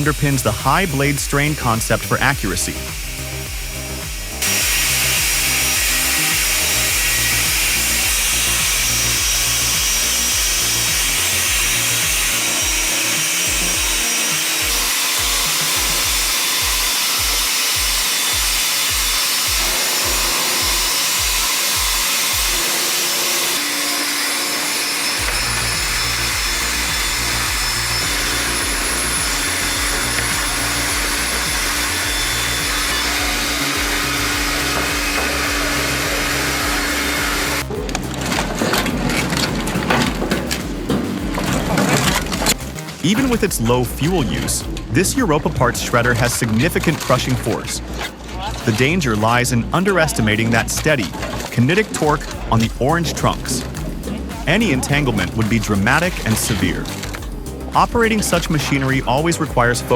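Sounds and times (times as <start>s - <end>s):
music with pulsing bass beat: 0.0s - 23.2s, 25.2s - 59.9s
wood-processing machinery hissing: 0.0s - 59.9s.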